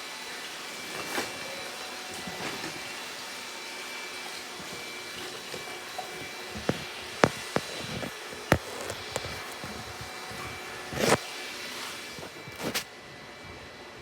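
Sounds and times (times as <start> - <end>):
robot vacuum cleaner running: 0.0 - 14.0.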